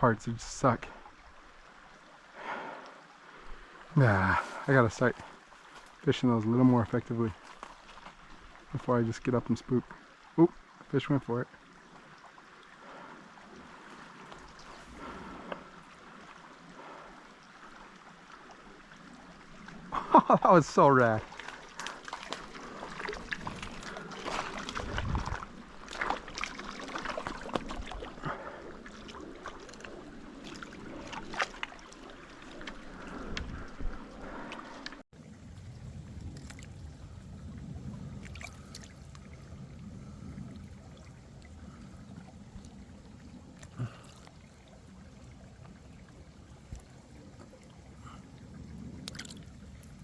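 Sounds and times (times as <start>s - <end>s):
creek running and splashing: 0.0s - 50.0s.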